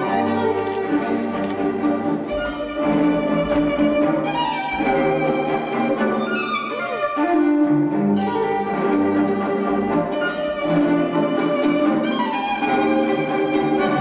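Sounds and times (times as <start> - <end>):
bowed strings: 0.0 - 14.0
orchestral ballet music: 0.0 - 14.0.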